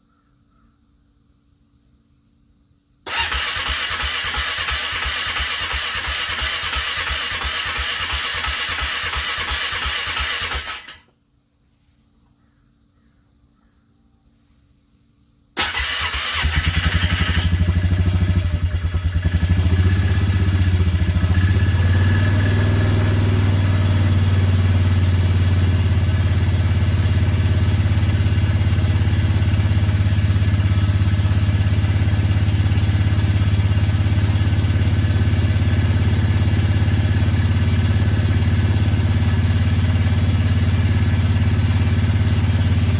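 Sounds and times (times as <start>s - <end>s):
motorcycle engine starting and idling: 3.0s - 11.2s, 15.6s - 42.9s.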